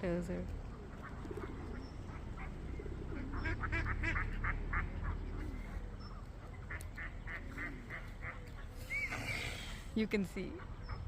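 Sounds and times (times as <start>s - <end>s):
waterfowl honking: 0.8s - 9.7s.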